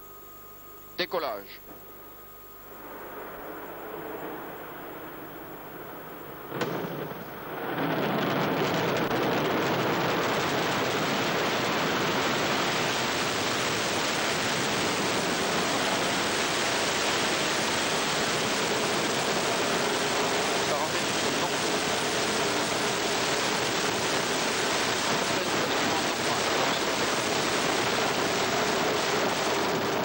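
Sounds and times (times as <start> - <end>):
rocket ignition burst: 1.6 - 30.0
rocket engine roaring: 2.6 - 30.0.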